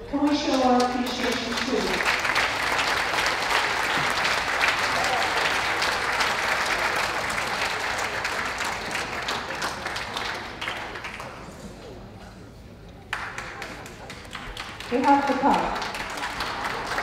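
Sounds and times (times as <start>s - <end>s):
audience clapping: 0.0s - 12.0s, 12.9s - 17.0s.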